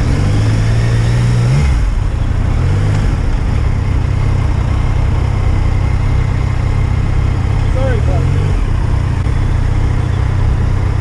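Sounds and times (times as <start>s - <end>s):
motorcycle engine at low revs: 0.0s - 11.0s
wind and road noise: 0.0s - 11.0s.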